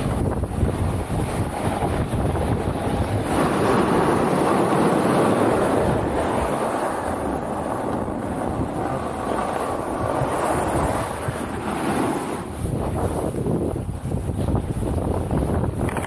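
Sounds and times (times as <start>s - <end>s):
snowboard carving over snow: 0.0s - 16.0s
wind buffeting microphone: 0.0s - 16.0s.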